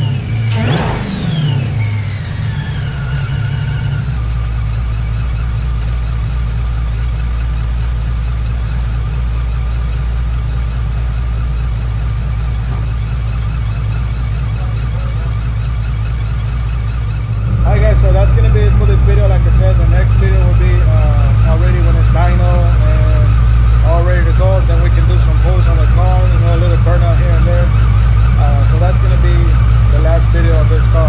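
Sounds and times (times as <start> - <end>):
car engine revving down and idling: 0.0 - 31.0
supercharger whine: 0.0 - 31.0.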